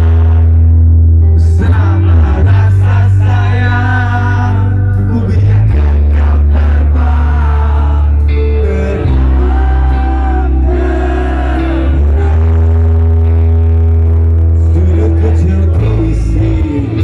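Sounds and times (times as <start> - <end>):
live rock band playing: 0.0 - 17.0
person singing: 1.3 - 13.3, 14.6 - 17.0.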